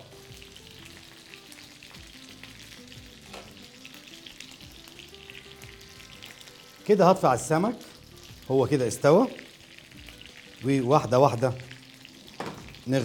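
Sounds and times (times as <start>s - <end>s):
fish sizzling in a skillet: 0.0s - 13.0s.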